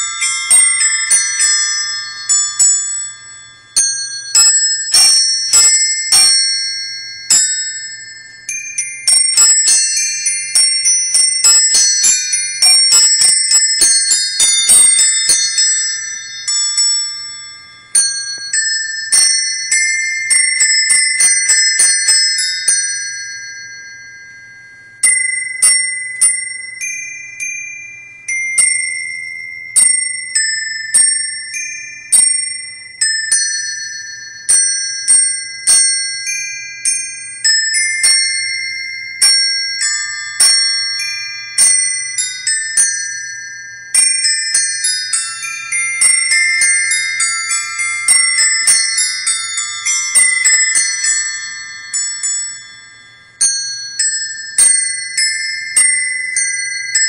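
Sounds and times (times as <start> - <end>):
faint steady hum: 0.0 - 57.0
small metal bells playing tune: 0.0 - 57.0.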